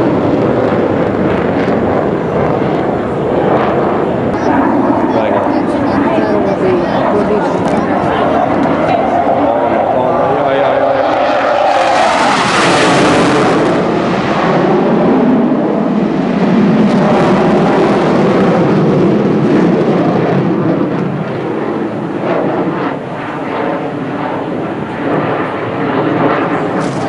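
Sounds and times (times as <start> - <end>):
jet engines roaring overhead: 0.0 - 27.0.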